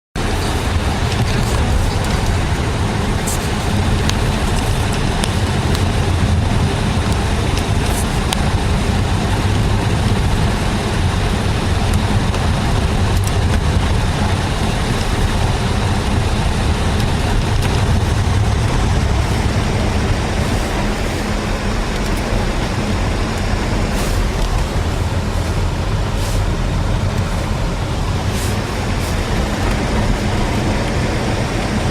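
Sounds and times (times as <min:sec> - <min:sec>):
tyre road noise: 0:00.1 - 0:31.9
car engine hum: 0:00.2 - 0:31.9.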